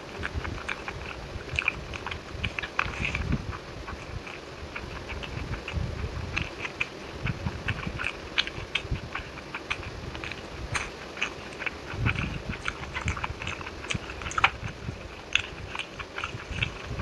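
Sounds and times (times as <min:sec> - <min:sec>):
soft thuds of chewing: 0:00.0 - 0:17.0
wet mouth clicks and squelches: 0:00.0 - 0:17.0.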